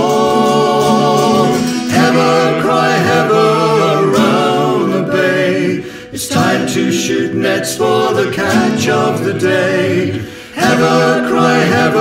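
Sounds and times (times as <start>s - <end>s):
men and women singing folk song: 0.0s - 12.0s.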